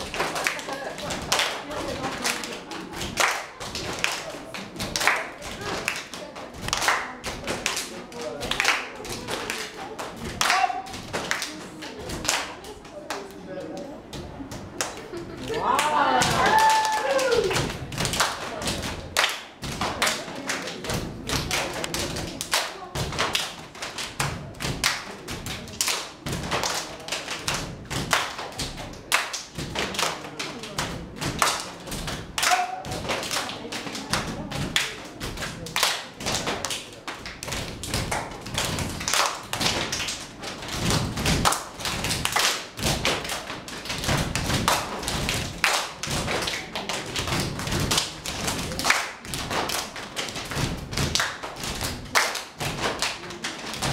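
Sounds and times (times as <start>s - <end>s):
people clapping: 0.0s - 53.9s.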